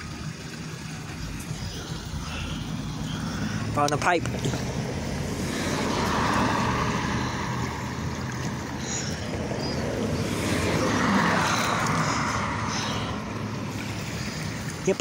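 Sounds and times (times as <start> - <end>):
water rushing into drain: 0.0 - 15.0.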